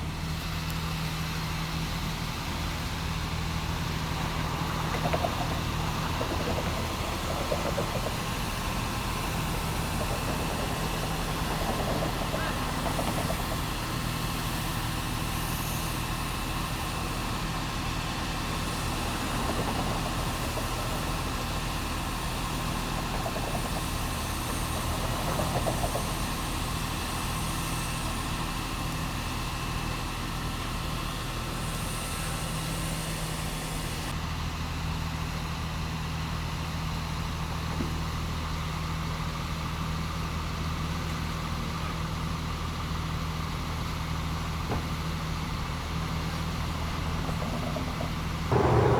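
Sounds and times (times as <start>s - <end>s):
engine idling: 0.0s - 34.2s, 38.2s - 48.9s.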